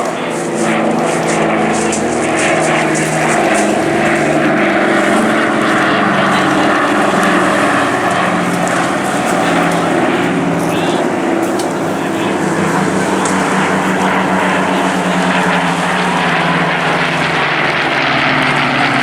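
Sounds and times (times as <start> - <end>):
propeller aircraft engine: 0.0 - 19.0.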